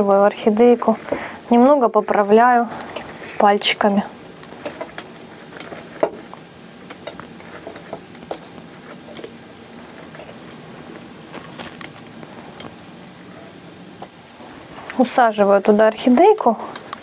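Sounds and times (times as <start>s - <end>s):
moss rustling and crackling: 0.0s - 17.0s.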